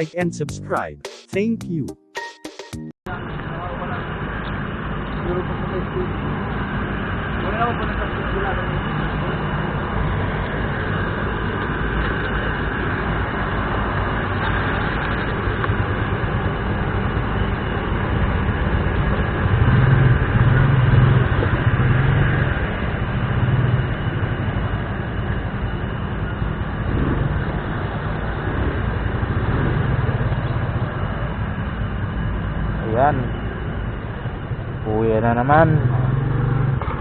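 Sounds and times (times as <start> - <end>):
motorcycle engine riding: 3.3 - 37.0.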